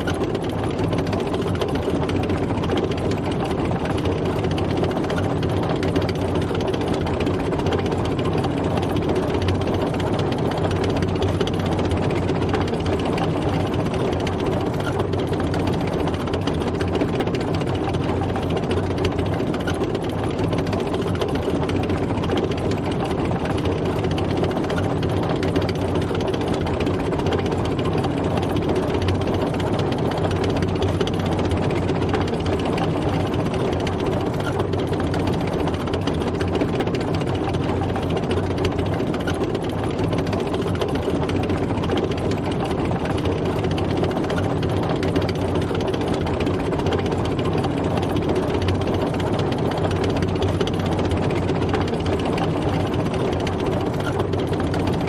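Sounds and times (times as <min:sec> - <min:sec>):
tank engine running: 0:00.0 - 0:55.0.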